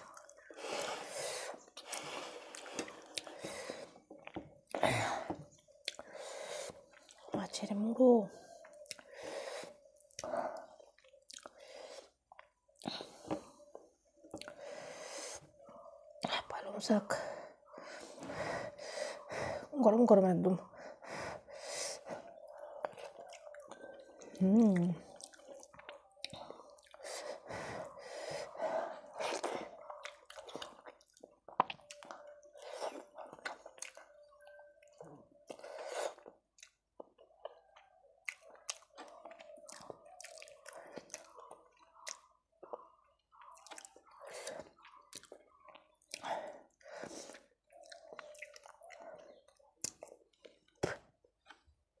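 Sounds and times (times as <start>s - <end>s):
person chewing food: 0.0s - 7.6s, 8.4s - 16.5s, 20.7s - 52.0s.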